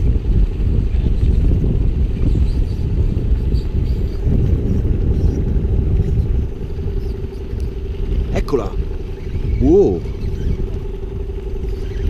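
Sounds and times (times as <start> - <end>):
motorboat engine rumbling: 0.0 - 12.0.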